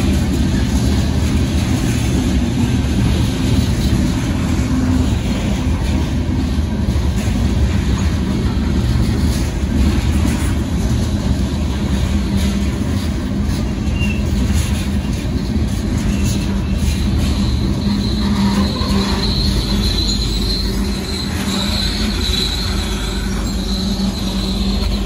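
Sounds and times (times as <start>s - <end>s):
steel wheels rumbling on rails: 0.0s - 25.0s
wheels clacking: 0.0s - 25.0s.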